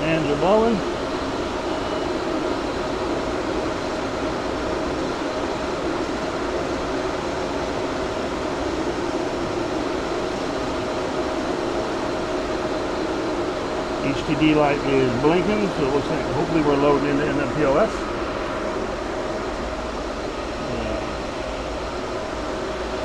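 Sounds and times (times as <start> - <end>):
cooling fans whooshing: 0.0 - 23.0
steady hum: 0.0 - 23.0.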